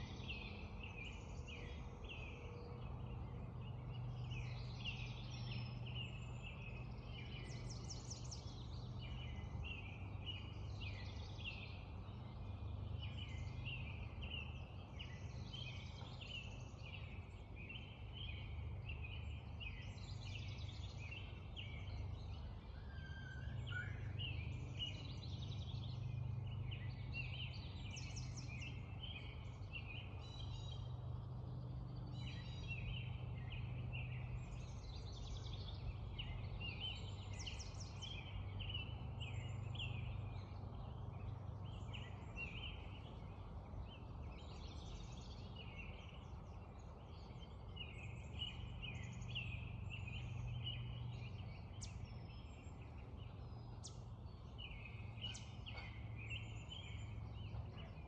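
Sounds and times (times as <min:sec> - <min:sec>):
songbirds calling and singing: 0:00.0 - 0:58.0.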